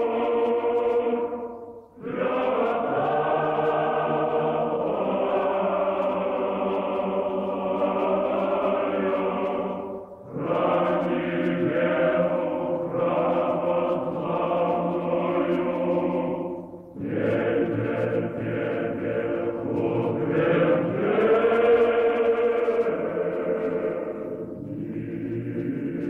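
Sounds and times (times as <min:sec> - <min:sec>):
choir singing a slow chant: 0:00.0 - 0:26.0.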